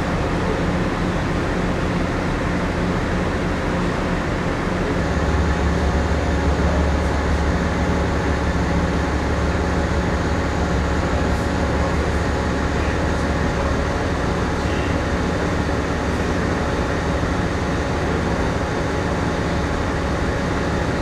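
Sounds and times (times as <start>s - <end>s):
ship machinery drone: 0.0s - 21.0s.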